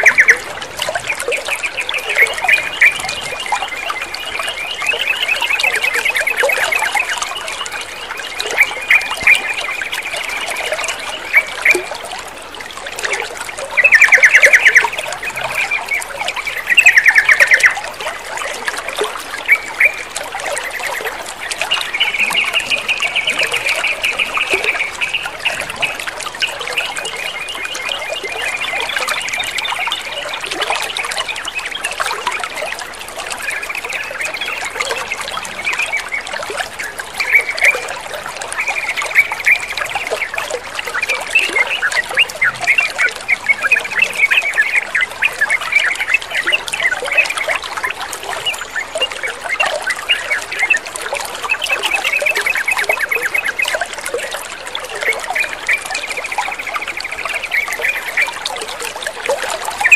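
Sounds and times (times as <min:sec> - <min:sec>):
water trickling: 0:00.0 - 0:59.9.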